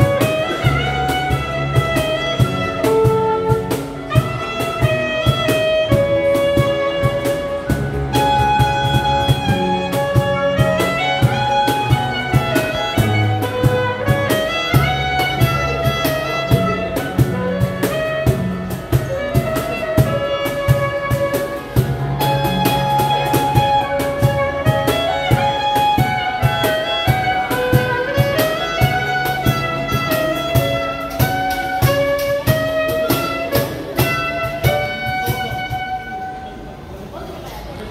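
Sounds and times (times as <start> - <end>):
beat and bass line: 0.0 - 36.3
bowed string melody: 0.0 - 37.0.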